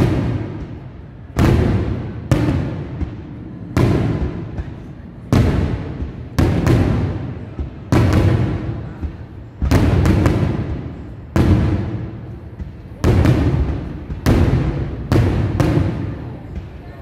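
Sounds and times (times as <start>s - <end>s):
firework shells booming: 0.0s - 16.9s.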